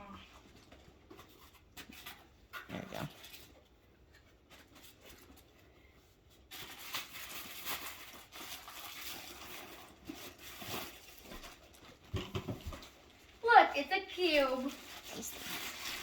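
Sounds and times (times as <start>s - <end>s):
packaging crinkling and rustling: 0.2s - 16.0s.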